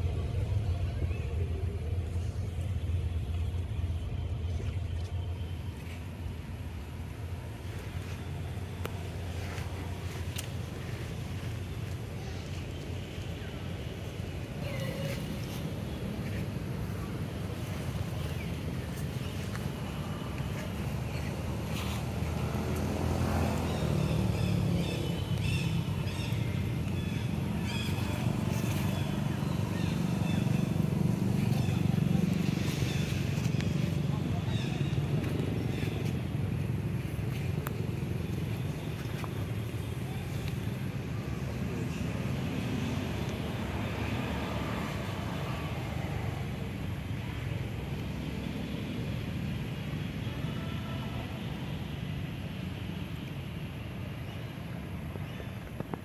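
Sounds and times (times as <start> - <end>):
steady low rumble: 0.0 - 50.3.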